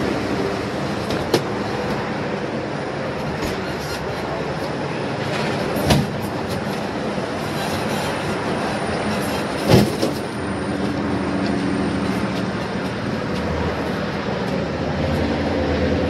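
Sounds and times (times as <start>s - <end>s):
dolly wheels rumbling: 0.6s - 16.0s.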